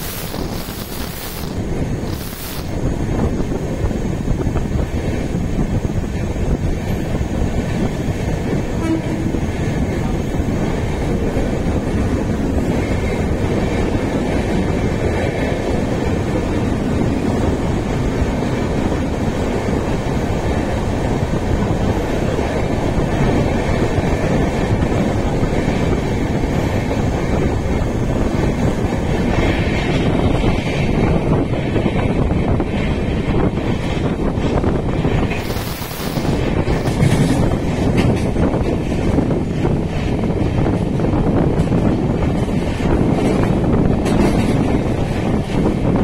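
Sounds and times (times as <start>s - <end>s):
train wheels rumbling on track: 0.0s - 46.0s.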